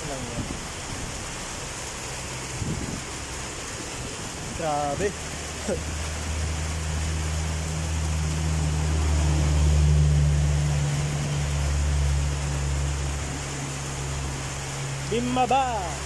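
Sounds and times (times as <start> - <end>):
heavy rain and wind hiss: 0.0 - 16.0.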